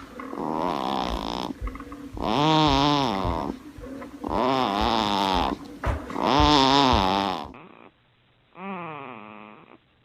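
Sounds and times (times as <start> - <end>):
baby snoring: 0.0 - 9.9.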